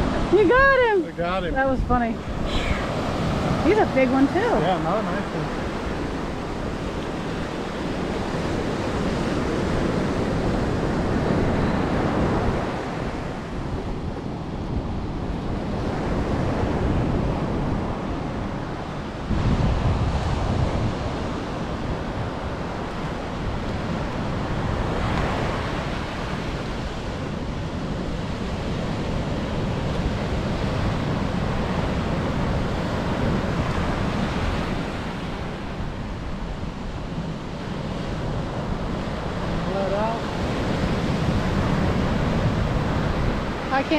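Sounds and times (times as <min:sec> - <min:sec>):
ocean surf breaking: 0:00.0 - 0:43.9
wind rumbling on microphone: 0:00.0 - 0:43.9.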